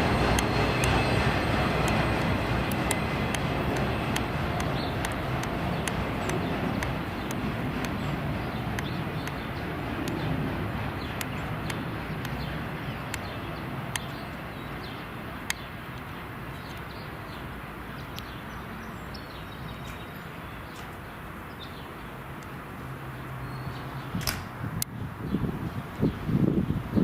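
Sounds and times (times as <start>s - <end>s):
outdoor background rumble: 0.0s - 27.0s.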